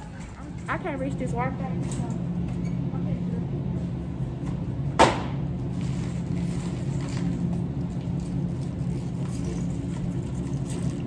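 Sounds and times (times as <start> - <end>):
low hum of store background: 0.0 - 11.0.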